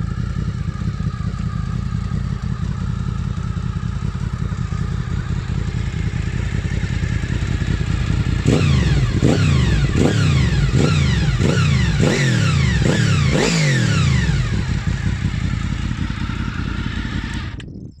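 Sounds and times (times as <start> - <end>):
motorcycle engine revving: 0.0 - 17.8.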